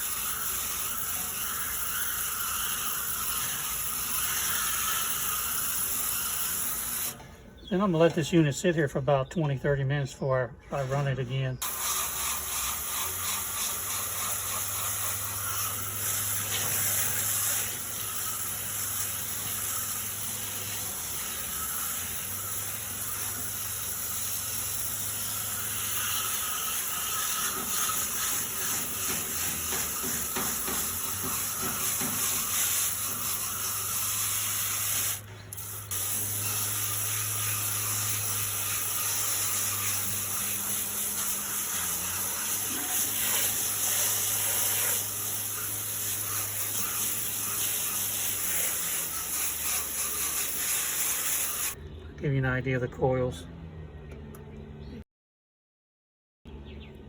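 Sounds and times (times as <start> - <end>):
garden hose spraying water: 0.0 - 8.7, 11.0 - 51.8.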